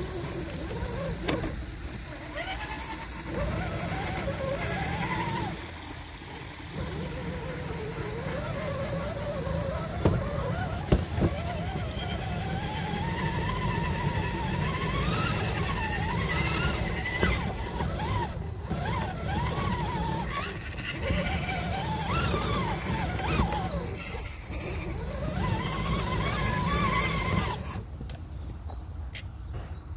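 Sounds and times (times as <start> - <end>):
electric motor and gearbox whining: 0.0 - 29.2.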